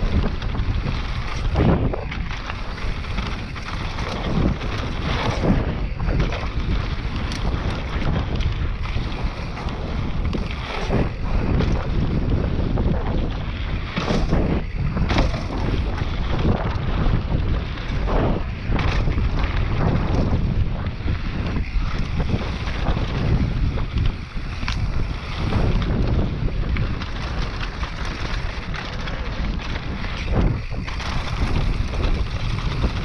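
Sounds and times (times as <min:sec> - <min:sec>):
bike knocking over bumps: 0:00.0 - 0:33.0
tyres rolling over dirt: 0:00.0 - 0:33.0
wind buffeting microphone: 0:00.0 - 0:33.0.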